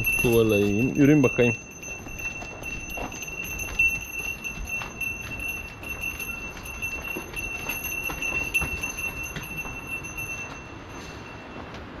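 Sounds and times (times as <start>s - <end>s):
livestock bells jingling: 0.0s - 11.7s.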